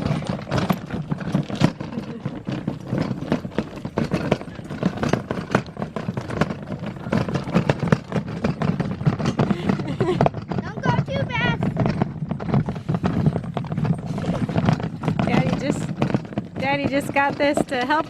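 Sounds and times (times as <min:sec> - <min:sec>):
cart rattling over rough ground: 0:00.0 - 0:18.0.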